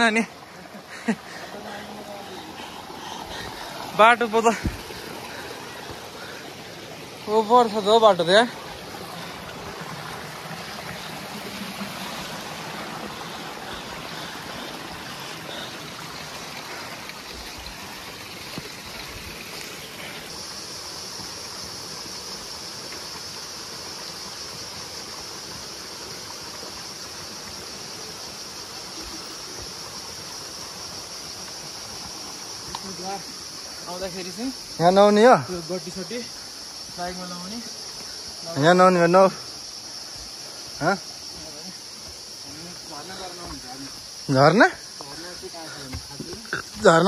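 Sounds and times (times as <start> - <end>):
high-pitched insect drone: 0.0 - 47.0
stream trickling over boulders: 0.0 - 47.0.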